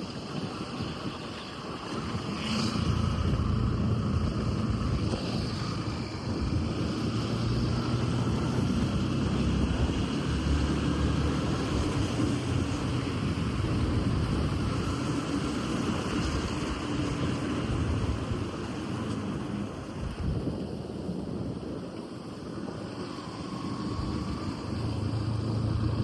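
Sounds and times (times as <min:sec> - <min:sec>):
vehicle engine and road rumble: 0:00.0 - 0:26.0
wind noise on microphone: 0:00.0 - 0:26.0.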